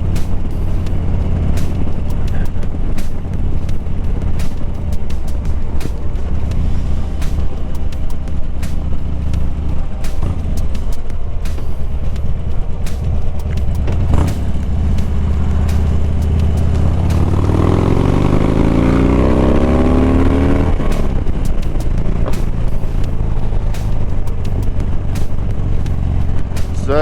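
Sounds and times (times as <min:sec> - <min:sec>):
motorcycle engine running: 0:00.0 - 0:27.0
wind noise on microphone: 0:00.0 - 0:27.0.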